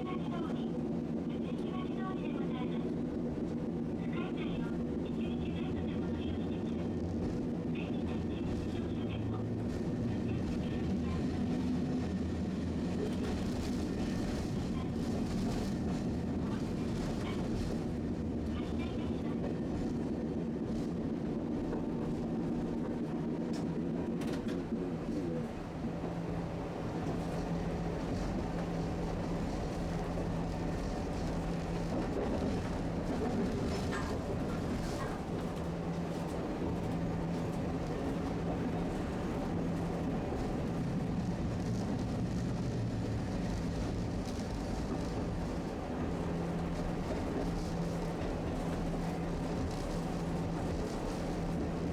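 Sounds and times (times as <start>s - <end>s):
streetcar rumbling on track: 0.0s - 51.9s.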